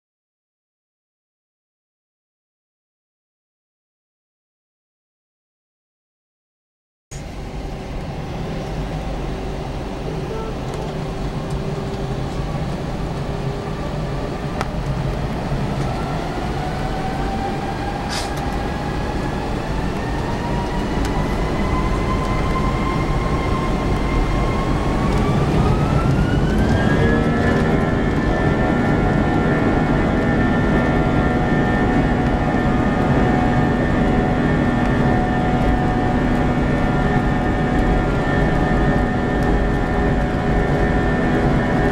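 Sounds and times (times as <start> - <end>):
aircraft rumble: 7.1 - 41.9
jet engine whine rising: 7.1 - 41.9.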